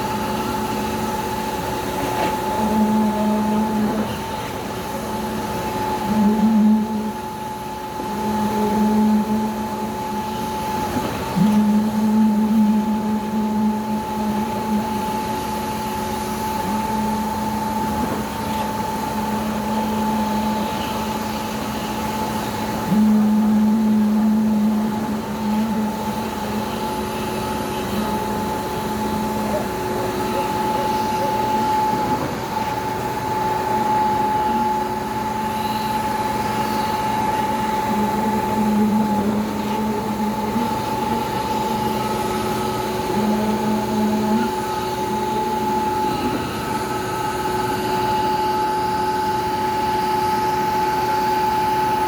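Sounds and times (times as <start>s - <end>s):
lower hum: 0.0s - 52.0s
pump truck machine drone: 0.0s - 52.0s.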